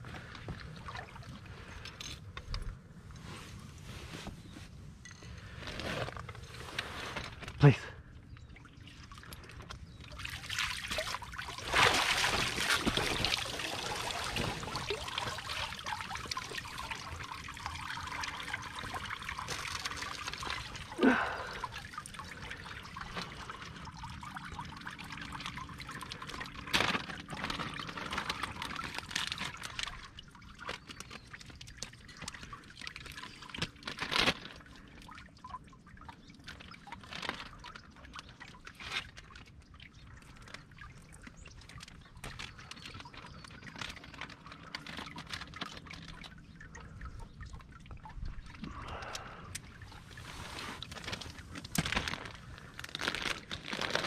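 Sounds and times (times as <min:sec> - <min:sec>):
water trickling and dripping: 0:00.0 - 0:03.2, 0:06.2 - 0:54.0.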